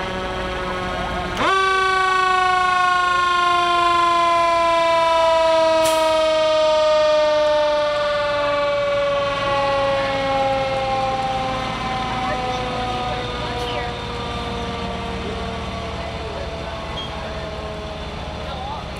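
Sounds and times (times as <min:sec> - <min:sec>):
fire engine siren: 0:00.0 - 0:18.9.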